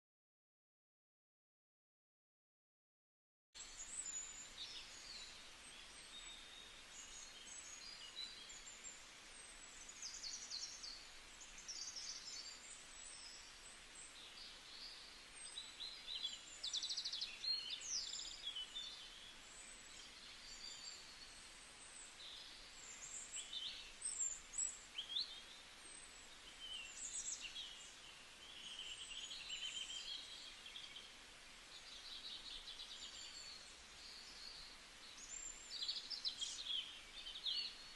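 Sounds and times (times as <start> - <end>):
faint steady hiss: 3.6 - 37.9
small birds chirping: 3.6 - 37.9.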